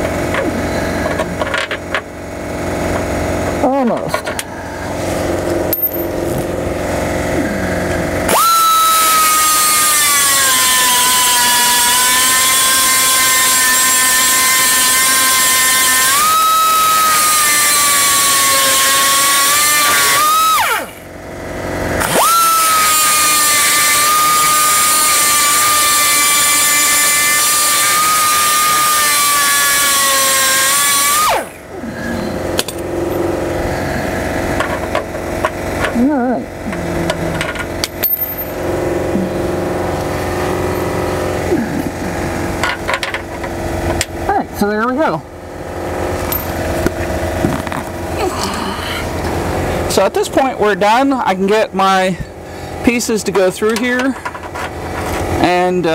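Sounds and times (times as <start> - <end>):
air die grinder whining: 0.0 - 55.9.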